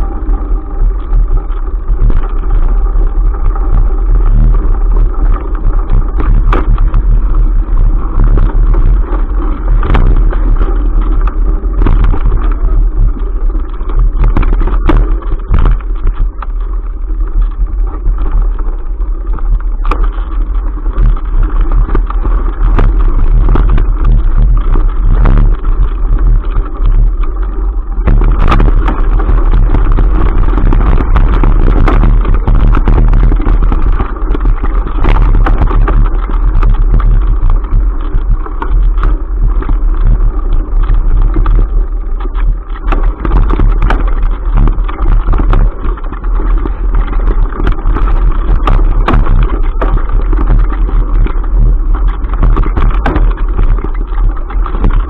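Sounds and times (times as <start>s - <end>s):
bike and camera rattling: 0.0s - 55.0s
wind and tyre rumble: 0.0s - 55.0s.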